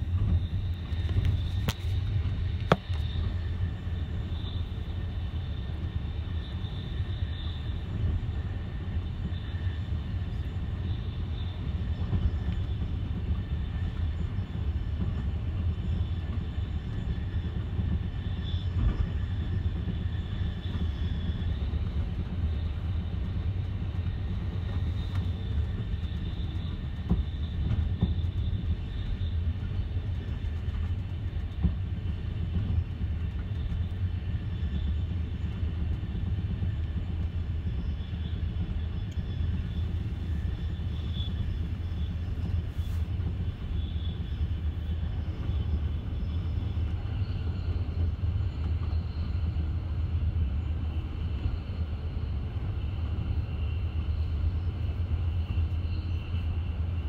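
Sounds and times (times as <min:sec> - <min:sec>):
wheels rumbling on rails: 0:00.0 - 0:57.0.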